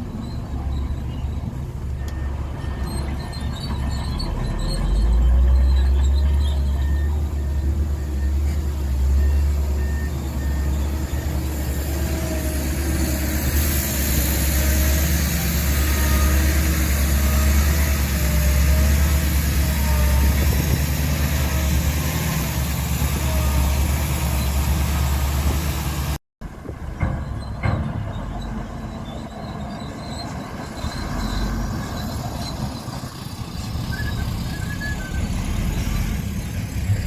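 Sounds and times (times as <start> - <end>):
heavy diesel engine droning: 0.0 - 37.0.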